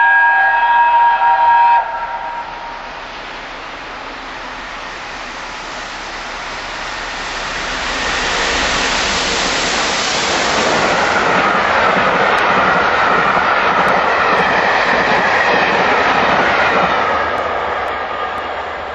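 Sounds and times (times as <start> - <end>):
steam locomotive passing at speed: 0.0 - 18.9
train coaches rushing past: 0.0 - 18.9.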